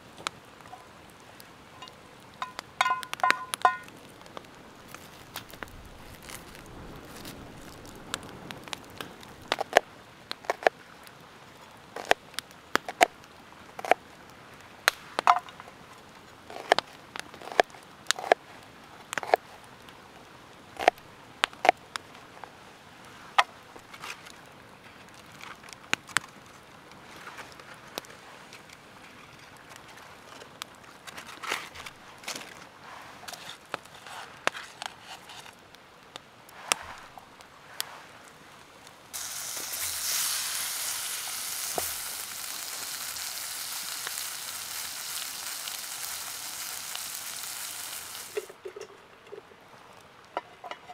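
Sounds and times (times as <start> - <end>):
campfire crackling and popping: 0.0 - 50.8.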